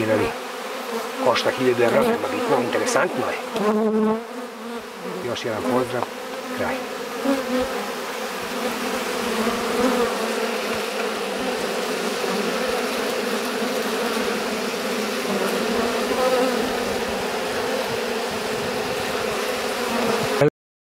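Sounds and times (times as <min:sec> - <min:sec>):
honeybees buzzing: 0:00.0 - 0:20.5.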